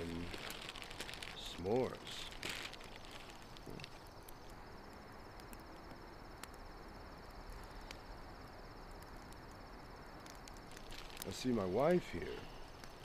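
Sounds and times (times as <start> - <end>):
campfire crackles: 0.0 - 13.0
crickets chirring: 0.0 - 13.0.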